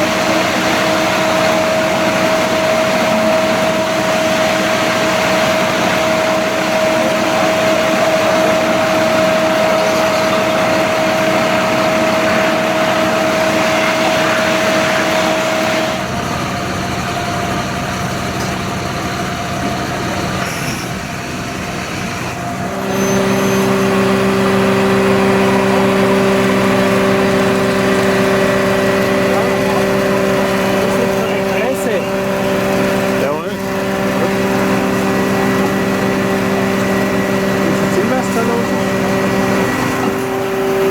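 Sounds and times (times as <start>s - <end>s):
fire truck diesel engine running: 0.0s - 40.9s.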